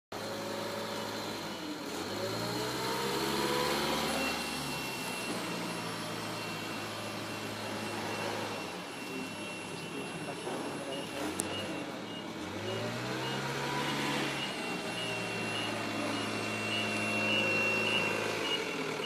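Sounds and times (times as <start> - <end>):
forklift motor running: 0.2 - 19.0.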